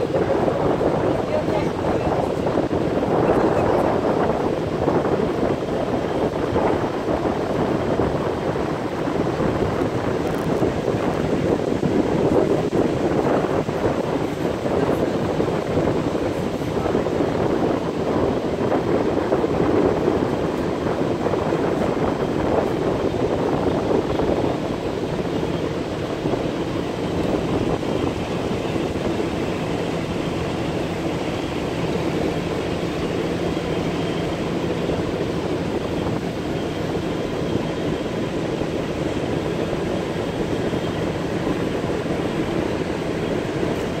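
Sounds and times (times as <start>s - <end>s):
motor boat engine droning: 0.0s - 44.0s.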